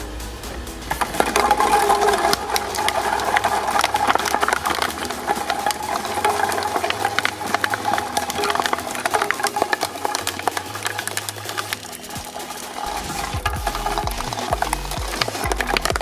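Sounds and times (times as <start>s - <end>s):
shredding machine crunching: 0.4s - 16.0s.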